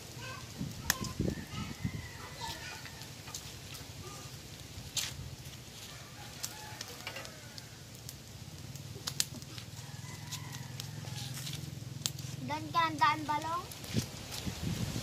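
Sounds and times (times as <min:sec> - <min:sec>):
meat crackling and popping: 0:00.0 - 0:15.0.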